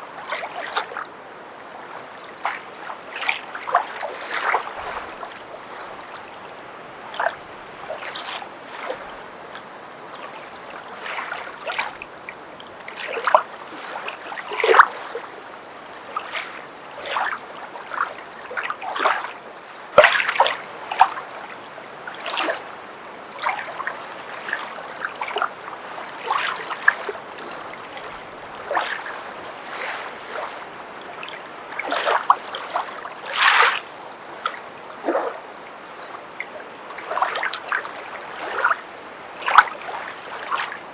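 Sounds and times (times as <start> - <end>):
footsteps wading through water: 0.0 - 40.9.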